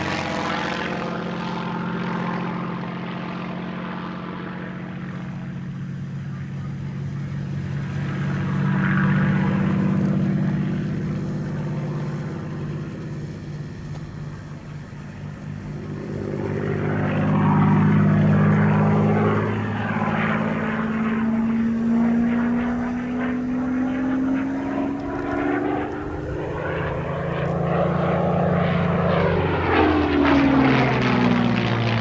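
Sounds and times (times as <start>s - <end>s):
propeller plane engine in flight: 0.0s - 32.0s.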